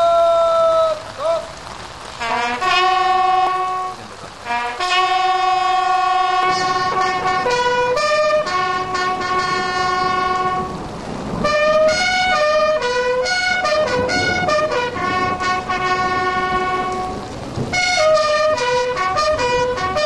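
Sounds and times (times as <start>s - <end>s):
bugle call: 2.2s - 10.8s, 11.4s - 20.0s.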